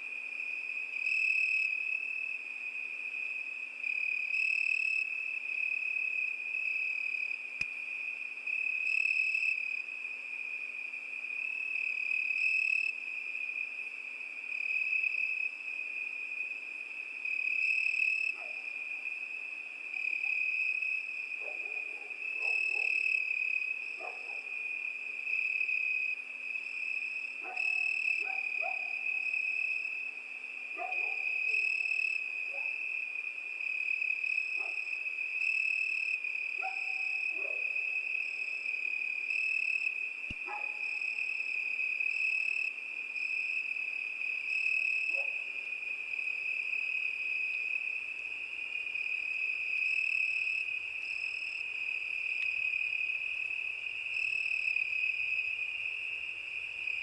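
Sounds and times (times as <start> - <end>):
crickets trilling: 0.2 - 57.0.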